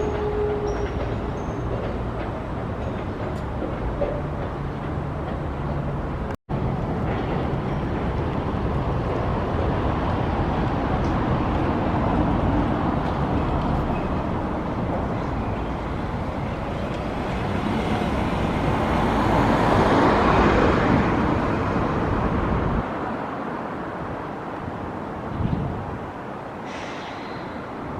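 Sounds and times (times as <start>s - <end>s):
street traffic noise: 0.0s - 27.9s.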